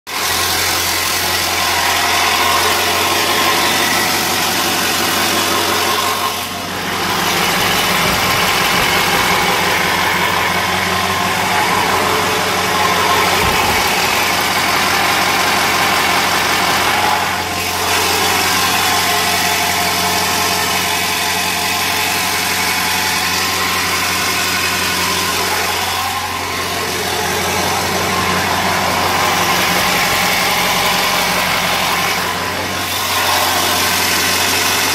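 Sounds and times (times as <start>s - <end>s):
diesel engine idling rough: 0.1s - 34.9s.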